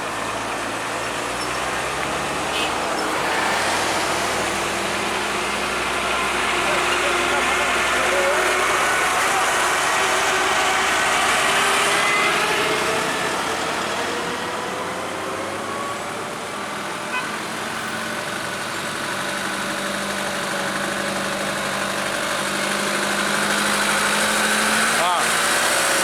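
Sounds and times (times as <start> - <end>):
truck engines running: 0.0 - 26.0.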